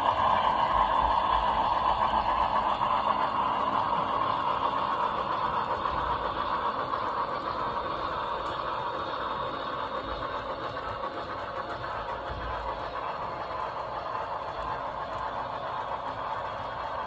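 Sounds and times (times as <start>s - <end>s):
model freight cars rolling: 0.0s - 17.0s.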